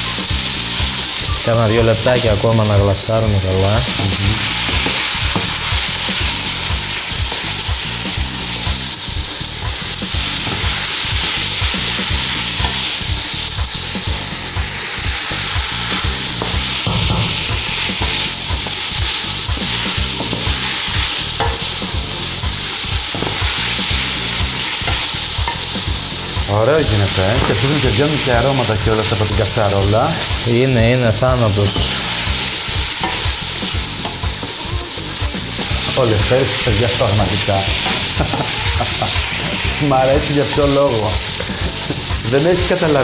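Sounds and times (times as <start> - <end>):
vegetables sizzling in oil: 0.0 - 43.0.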